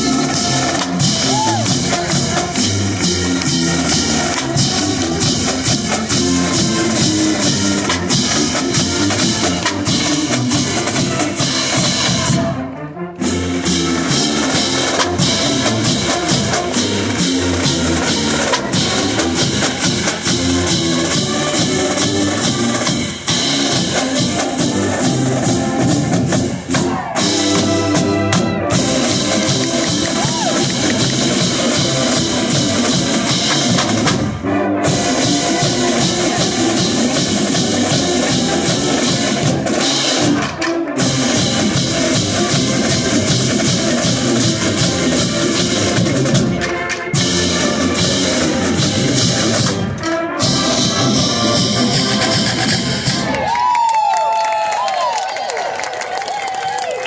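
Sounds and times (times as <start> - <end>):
snare and bass drums: 0.0 - 12.6, 13.2 - 53.5
brass band playing: 0.0 - 53.6.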